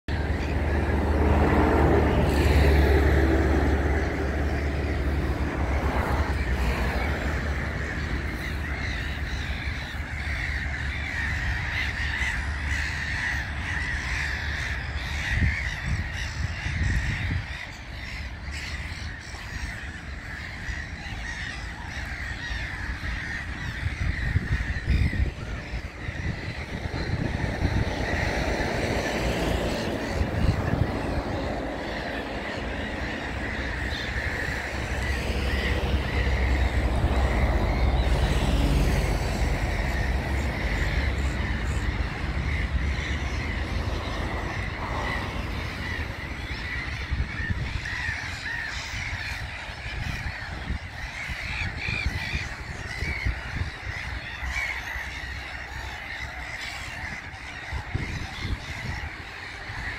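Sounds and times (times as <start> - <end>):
gulls calling: 0.0 - 59.9.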